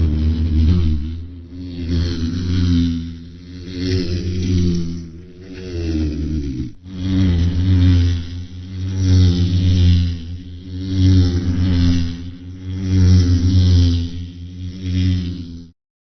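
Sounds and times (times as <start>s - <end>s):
bumblebee buzzing in flight: 0.0s - 15.8s.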